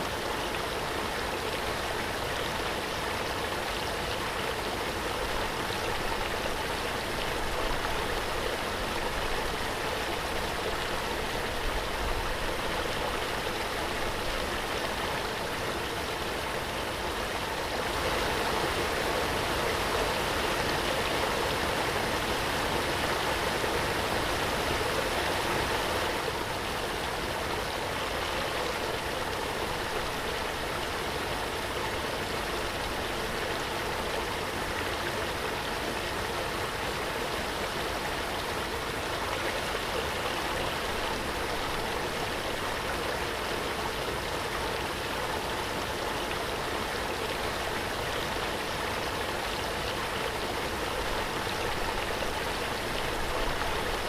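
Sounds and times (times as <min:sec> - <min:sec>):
waterfall rushing and splashing: 0:00.0 - 0:54.0.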